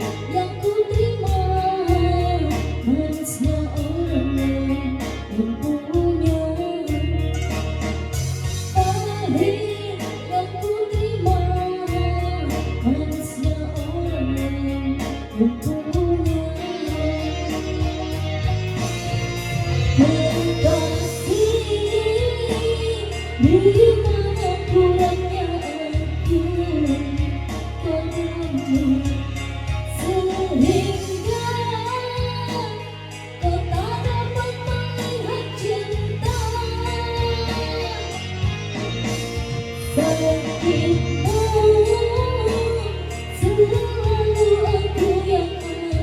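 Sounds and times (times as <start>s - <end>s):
woman singing: 0.0s - 38.8s, 39.8s - 46.0s
backing music with steady beat: 0.0s - 46.0s.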